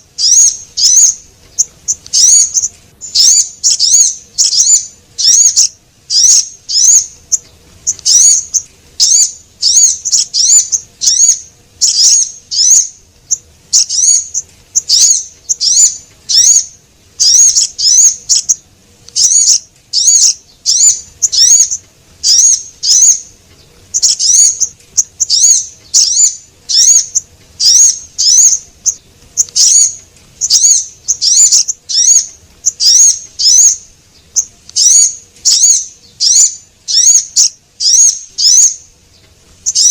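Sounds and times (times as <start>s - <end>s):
recorded songbird chirps: 0.0s - 39.9s.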